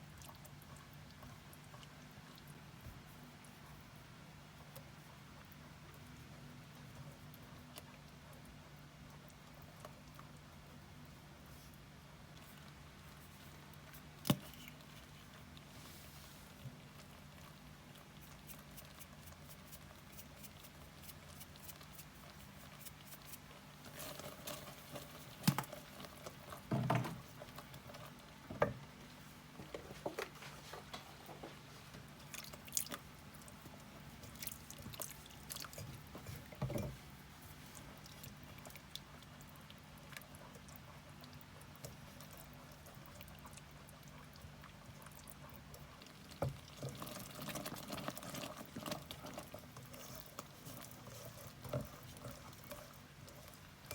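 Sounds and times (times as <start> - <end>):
faint steady low hum: 0.0 - 53.9.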